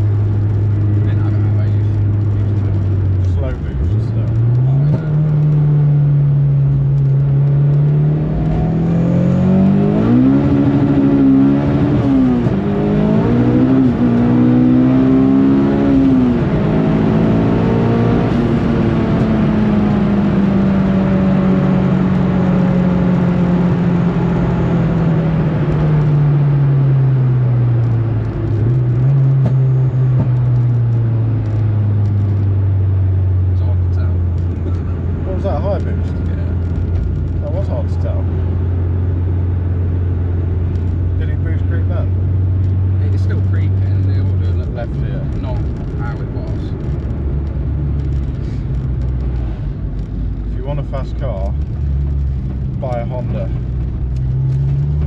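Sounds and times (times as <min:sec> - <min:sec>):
turbocharged car engine revving: 0:00.0 - 0:55.0.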